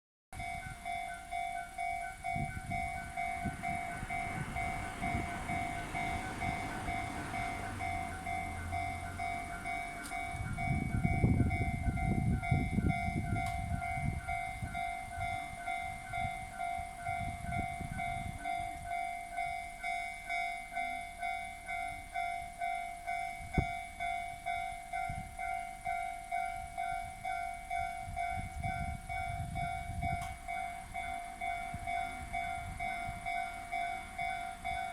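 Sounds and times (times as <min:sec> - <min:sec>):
level crossing warning bells: 0:00.4 - 0:34.9
train rumble: 0:00.4 - 0:34.9.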